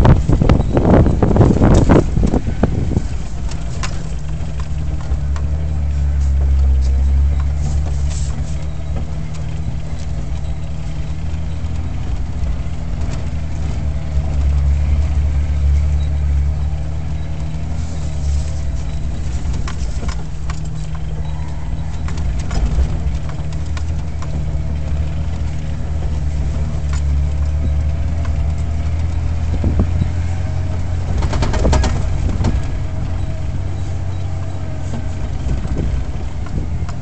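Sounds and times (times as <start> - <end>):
car engine droning at low speed: 0.0 - 37.0
loud rough noise: 0.0 - 37.0.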